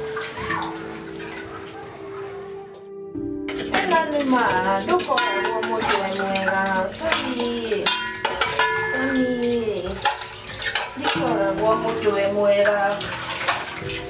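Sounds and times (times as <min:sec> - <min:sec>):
dishes clattering in a sink: 0:00.0 - 0:01.9, 0:03.5 - 0:14.0
music with singing: 0:00.0 - 0:14.0.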